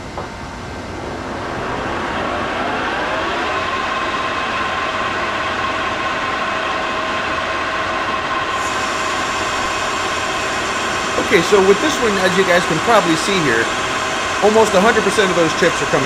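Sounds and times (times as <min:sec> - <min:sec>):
metal lathe gear whine: 0:00.0 - 0:16.0.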